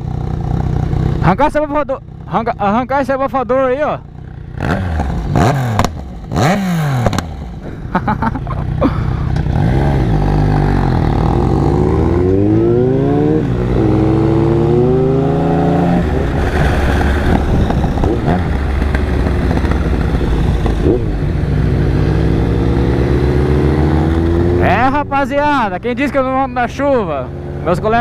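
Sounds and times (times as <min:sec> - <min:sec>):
motorcycles revving and accelerating: 0:03.7 - 0:28.0.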